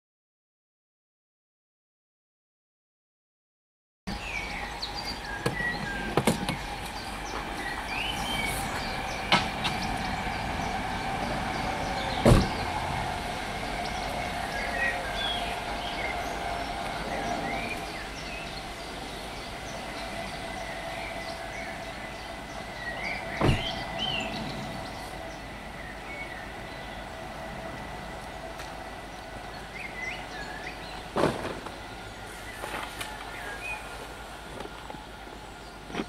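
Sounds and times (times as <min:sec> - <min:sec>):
small birds chirping: 0:04.1 - 0:34.1
steady distant drone: 0:04.1 - 0:36.0.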